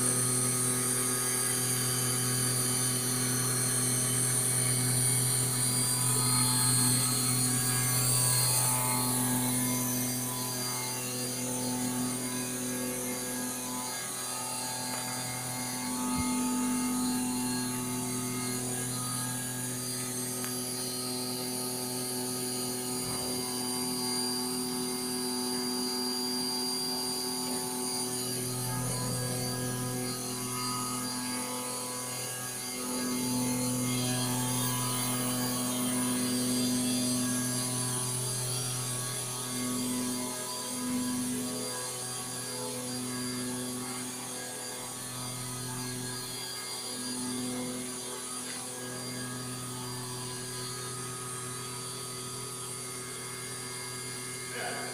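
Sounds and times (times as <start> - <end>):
router spindle carving stone: 0.0 - 54.9.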